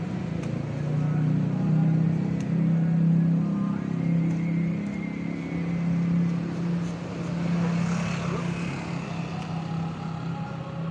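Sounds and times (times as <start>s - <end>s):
low engine hum: 0.0s - 10.9s.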